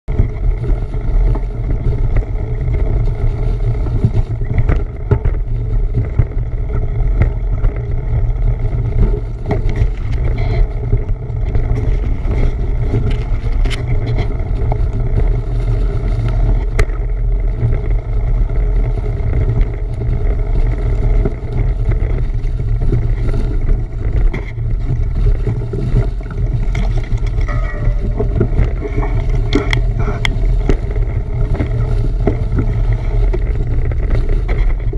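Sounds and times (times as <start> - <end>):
bicycle road noise: 0.0 - 34.9
wind buffeting microphone: 0.1 - 34.9.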